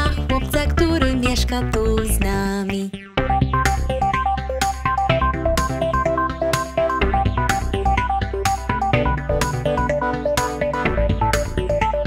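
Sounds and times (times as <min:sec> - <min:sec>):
upbeat electronic children's music: 0:00.0 - 0:12.0.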